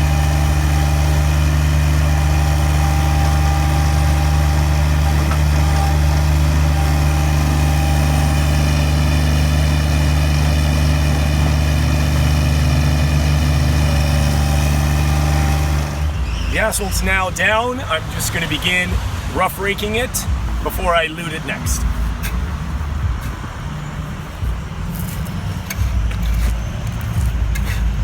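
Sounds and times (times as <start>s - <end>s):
loader engine running: 0.0s - 28.0s.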